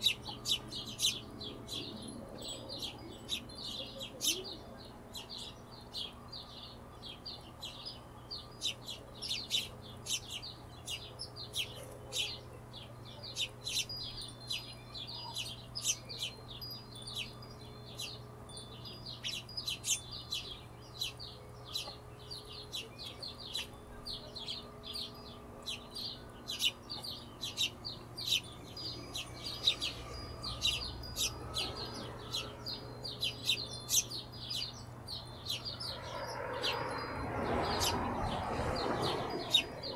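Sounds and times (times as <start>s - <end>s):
hummingbirds chipping: 0.0s - 39.9s.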